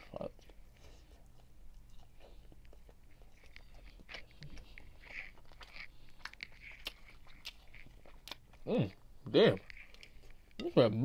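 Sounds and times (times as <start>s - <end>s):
close chewing mouth clicks: 0.0s - 10.6s
low steady hum: 0.0s - 11.0s.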